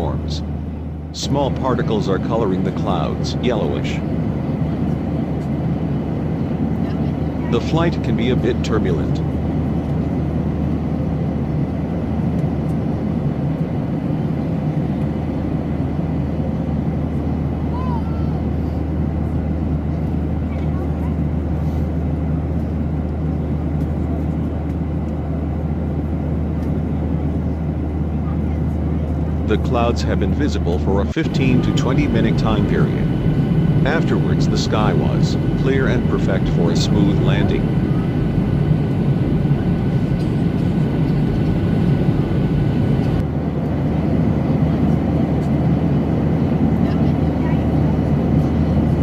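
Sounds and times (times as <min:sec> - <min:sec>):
jet engine drone in cabin: 0:00.0 - 0:49.0.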